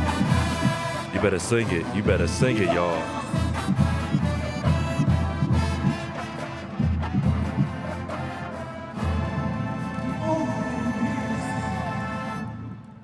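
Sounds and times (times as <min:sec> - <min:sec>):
marching band brass melody: 0:00.0 - 0:13.0.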